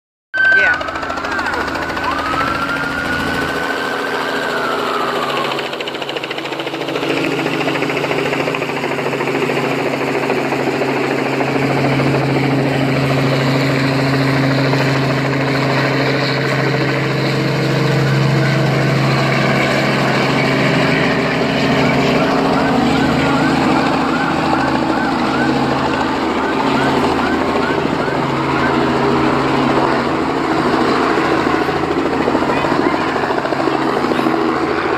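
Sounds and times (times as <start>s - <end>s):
helicopter droning overhead: 0.4s - 34.9s
police siren wail: 0.4s - 34.9s.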